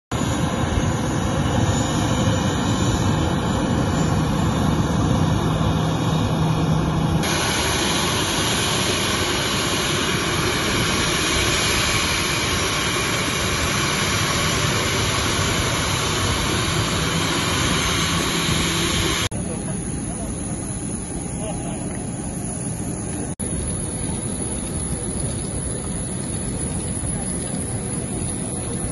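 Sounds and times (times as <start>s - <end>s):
jet engines running: 0.1s - 28.9s.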